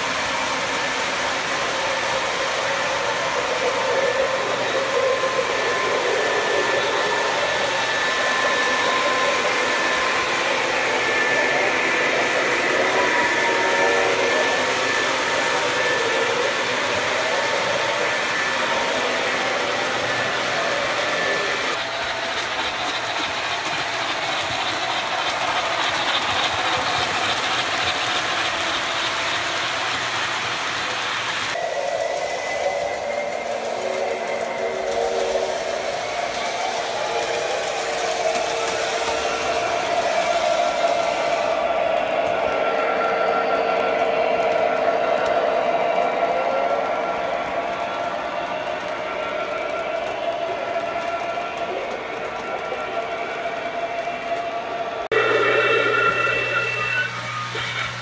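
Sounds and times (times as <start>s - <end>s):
model train wheels rumbling: 0.0s - 58.0s.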